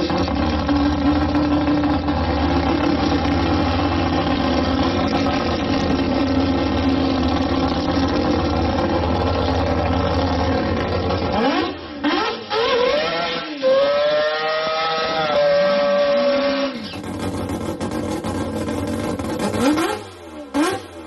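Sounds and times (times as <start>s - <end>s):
rotary engine idling and revving: 0.0s - 21.0s.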